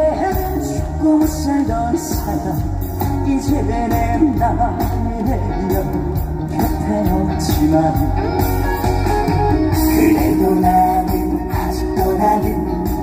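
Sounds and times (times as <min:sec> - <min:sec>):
man singing: 0:00.0 - 0:08.9, 0:09.6 - 0:13.0
backing music with steady beat: 0:00.0 - 0:13.0.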